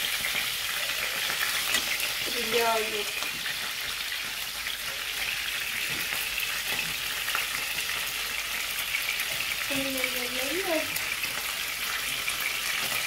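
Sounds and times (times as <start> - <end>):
pastries sizzling in hot oil: 0.0 - 13.0.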